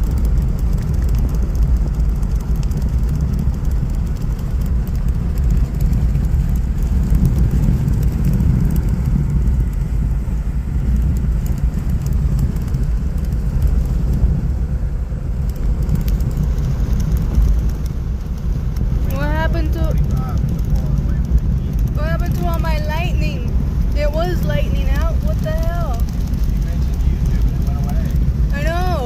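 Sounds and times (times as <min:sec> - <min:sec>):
faint ticks: 0:00.0 - 0:10.0, 0:15.4 - 0:29.0
wind buffeting microphone: 0:00.0 - 0:29.0.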